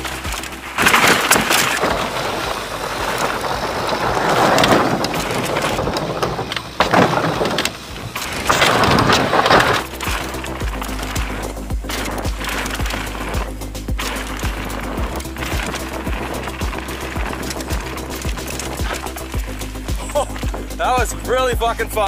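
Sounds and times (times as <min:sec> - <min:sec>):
bike frame rattle: 0:00.0 - 0:22.0
bike tyre roar: 0:00.0 - 0:22.0.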